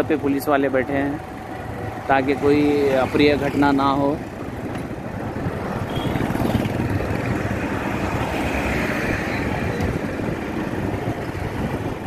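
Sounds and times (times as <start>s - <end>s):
passing street traffic: 0.0s - 12.0s
vehicle engine and road noise: 0.0s - 12.0s.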